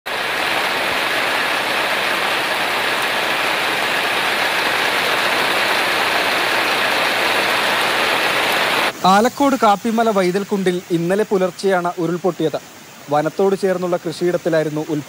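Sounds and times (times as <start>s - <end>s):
water rushing: 0.1s - 15.0s.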